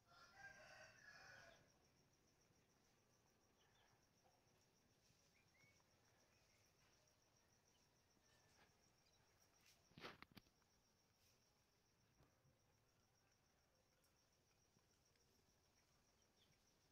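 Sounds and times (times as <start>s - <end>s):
high insect trill: 0.0s - 16.9s.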